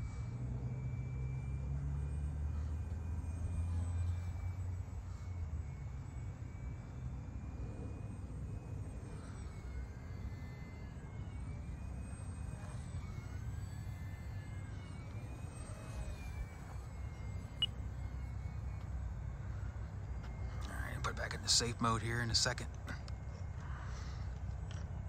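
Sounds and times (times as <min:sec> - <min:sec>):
model plane propeller whining: 0:00.0 - 0:25.0.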